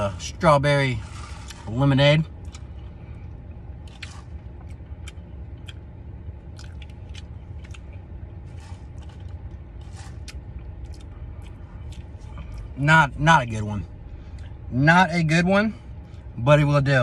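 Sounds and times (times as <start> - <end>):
low hum inside a car: 0.0 - 17.0.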